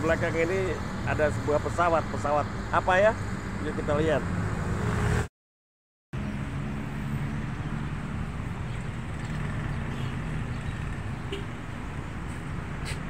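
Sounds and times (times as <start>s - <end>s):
low rumble of road traffic: 0.0s - 5.3s, 6.2s - 13.0s.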